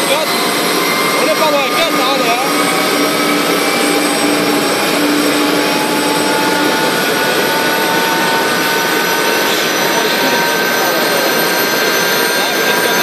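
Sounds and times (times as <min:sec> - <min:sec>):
helicopter turbine whine: 0:00.0 - 0:13.0
rotor rush: 0:00.0 - 0:13.0.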